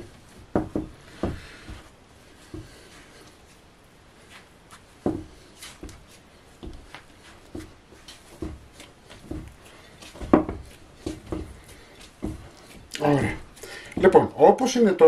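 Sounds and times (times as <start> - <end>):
spatula folding bread dough: 0.0 - 14.6.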